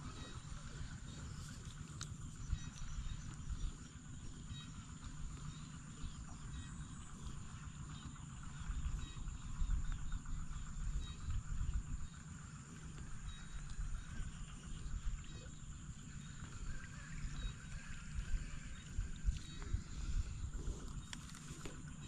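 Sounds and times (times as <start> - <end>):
birds chirping: 0.0 - 22.0
high insect drone: 0.0 - 22.0
low rumble: 0.0 - 22.0.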